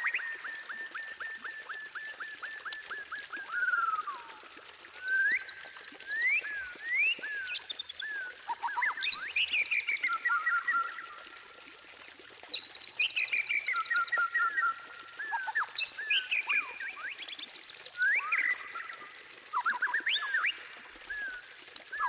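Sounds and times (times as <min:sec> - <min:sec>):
songbird whistles and trills: 0:00.0 - 0:11.6, 0:12.4 - 0:22.0.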